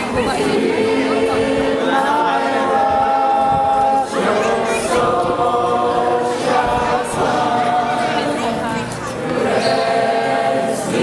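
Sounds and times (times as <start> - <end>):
congregation singing in unison: 0.0 - 11.0.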